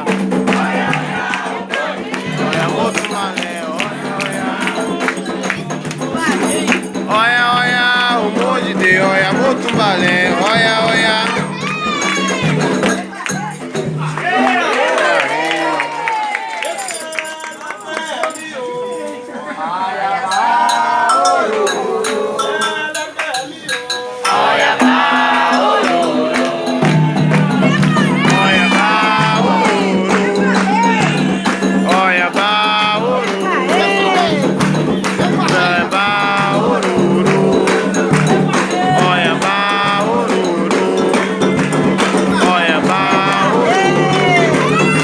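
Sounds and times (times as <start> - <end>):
sharp percussion strikes: 0.0 - 16.1, 20.3 - 45.0
voices singing a chant: 0.0 - 45.0.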